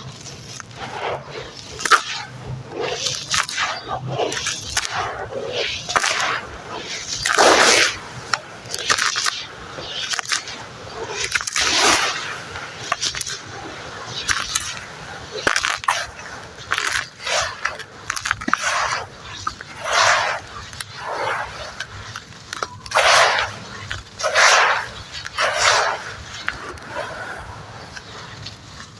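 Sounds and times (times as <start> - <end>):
wet gritty sand squelching: 0.0 - 28.9.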